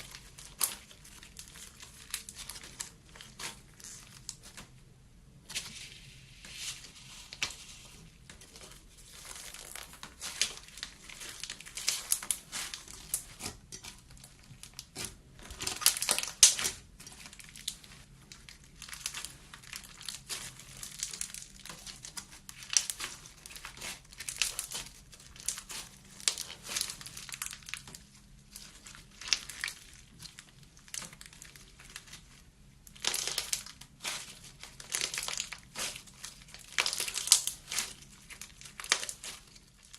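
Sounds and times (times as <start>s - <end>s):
slime crackling and popping: 0.0s - 4.8s, 8.4s - 39.9s.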